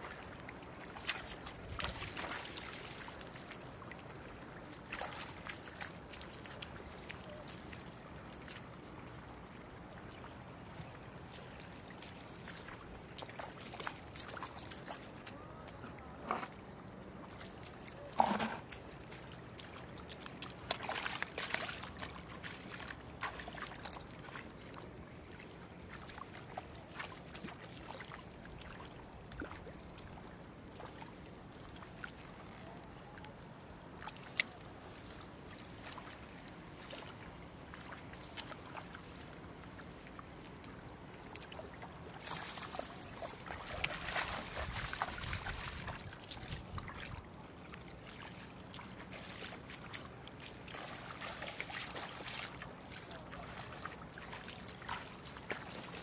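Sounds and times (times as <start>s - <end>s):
shallow water splashing and trickling: 0.0s - 56.0s.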